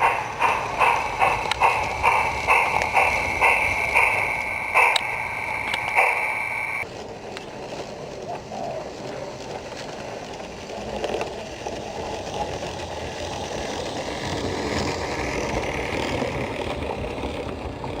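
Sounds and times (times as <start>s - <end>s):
model train rolling rumble: 0.0s - 18.0s.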